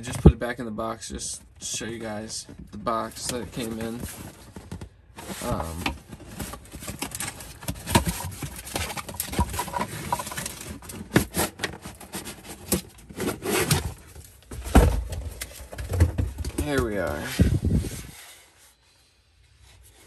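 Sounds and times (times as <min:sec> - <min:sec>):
cardboard rustling and scraping: 0:01.3 - 0:18.8.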